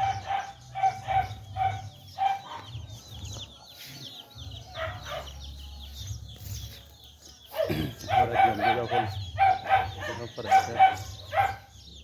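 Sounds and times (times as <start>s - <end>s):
birds calling and chirping: 0.0s - 12.0s.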